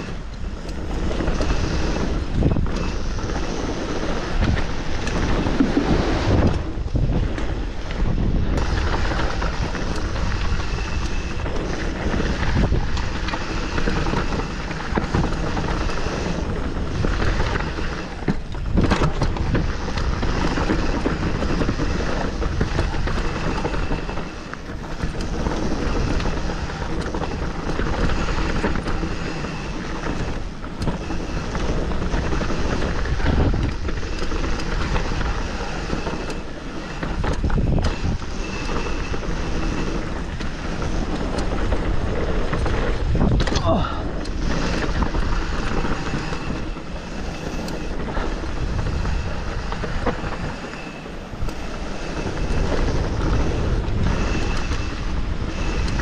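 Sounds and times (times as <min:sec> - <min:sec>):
bike rattling and knocking: 0:00.0 - 0:56.0
tyre noise: 0:00.0 - 0:56.0
wind buffeting microphone: 0:00.0 - 0:56.0.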